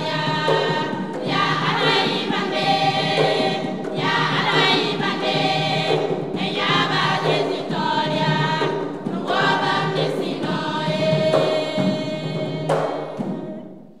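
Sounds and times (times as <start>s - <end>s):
women's choir singing gospel: 0.0s - 14.0s.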